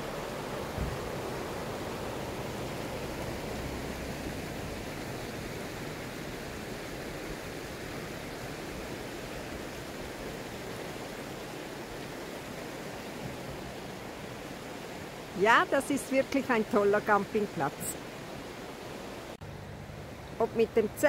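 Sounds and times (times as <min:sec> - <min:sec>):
river rushing over stones: 0:00.0 - 0:21.0.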